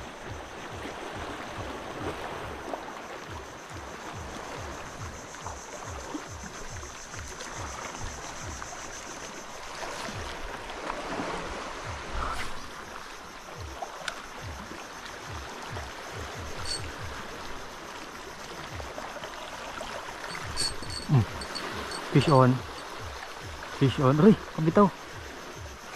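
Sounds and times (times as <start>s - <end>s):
water lapping and sloshing: 0.0s - 25.9s.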